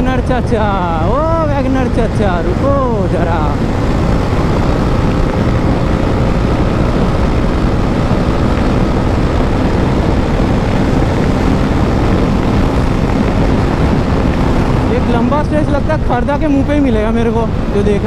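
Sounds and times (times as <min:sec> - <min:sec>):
motorcycle engine at high speed: 0:00.0 - 0:18.0
wind rush on microphone: 0:00.0 - 0:18.0.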